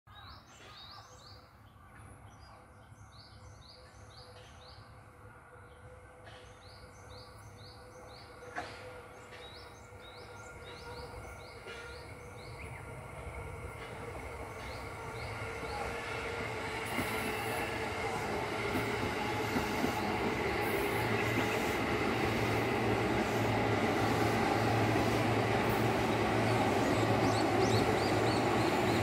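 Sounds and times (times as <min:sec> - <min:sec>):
electric train rumble and hum: 0:01.6 - 0:29.0
birds chirping: 0:05.7 - 0:29.0.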